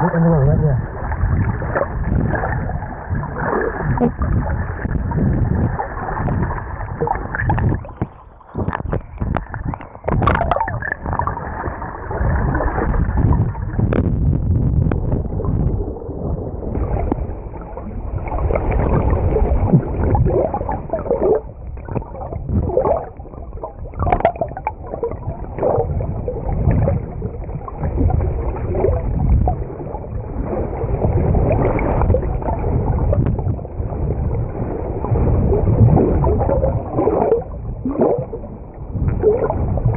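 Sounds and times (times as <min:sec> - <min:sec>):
muffled water gurgling and sloshing: 0:00.0 - 0:39.9
water splashes: 0:00.0 - 0:39.9.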